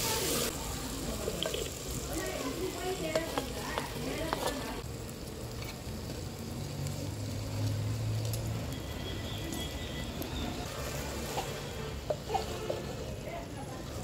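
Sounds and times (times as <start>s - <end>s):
food sizzling in a clay pot: 0.0s - 14.0s.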